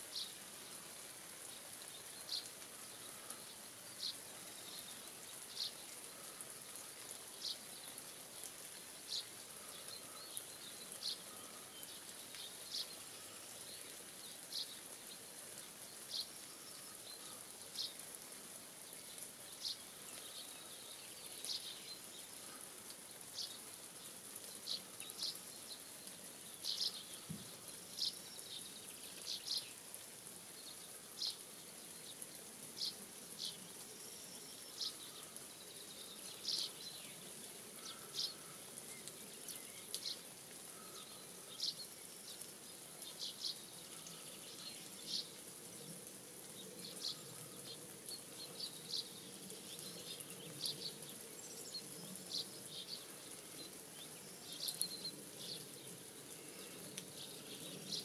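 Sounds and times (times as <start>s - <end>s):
high-pitched rural background hiss: 0.0s - 58.0s
small birds chirping: 0.0s - 58.0s.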